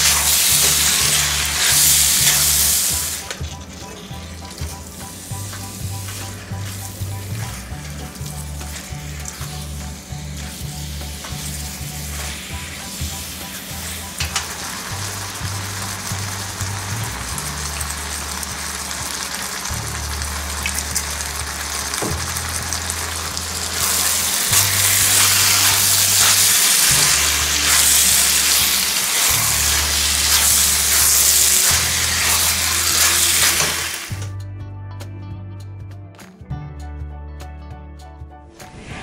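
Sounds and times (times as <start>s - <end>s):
stir fry sizzling in a pan: 0.0s - 34.3s
background music with bass: 0.0s - 39.0s.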